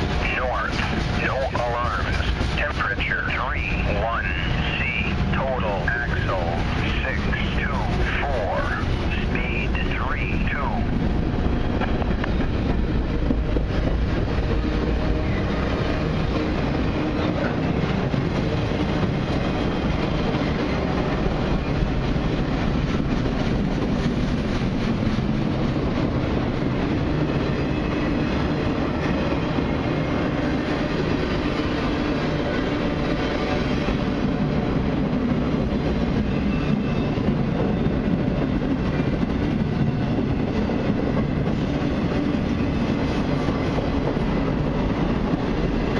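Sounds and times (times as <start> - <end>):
train wheels on rails: 0.0 - 45.9.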